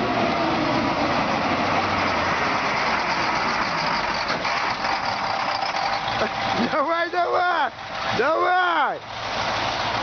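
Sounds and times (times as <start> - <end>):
dump truck engine running: 0.0 - 10.0.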